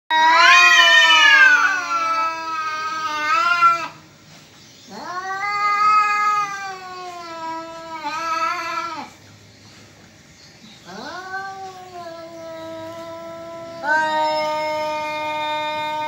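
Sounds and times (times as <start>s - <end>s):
cat yowling: 0.1s - 4.0s, 4.9s - 9.1s, 10.9s - 16.0s.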